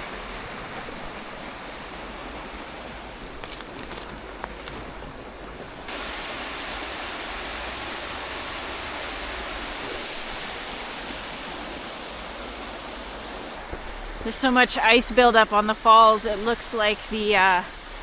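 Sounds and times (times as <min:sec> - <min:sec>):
water rushing over falls: 0:00.0 - 0:18.0.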